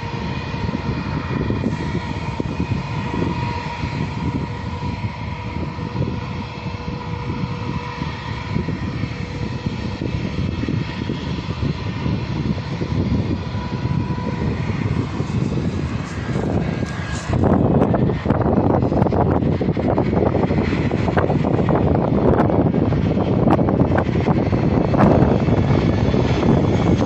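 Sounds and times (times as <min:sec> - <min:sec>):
jet engine whine: 0:00.0 - 0:27.0
low unsteady jet rumble: 0:00.0 - 0:27.0.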